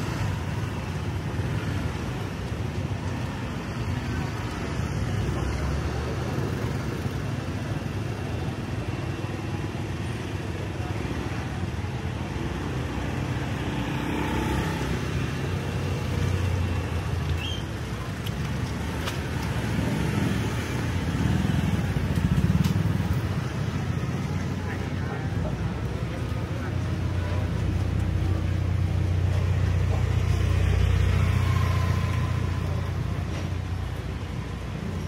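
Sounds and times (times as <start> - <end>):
cars passing: 0.0 - 35.0
traffic rumble: 0.0 - 35.0.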